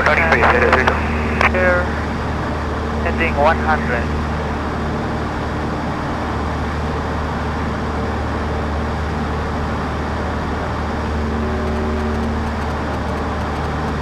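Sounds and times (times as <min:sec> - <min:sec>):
light aircraft engine droning: 0:00.0 - 0:14.0.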